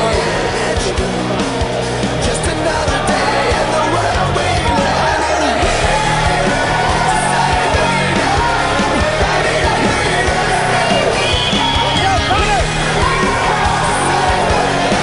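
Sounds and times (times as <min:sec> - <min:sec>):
song with singing voice: 0:00.0 - 0:15.0.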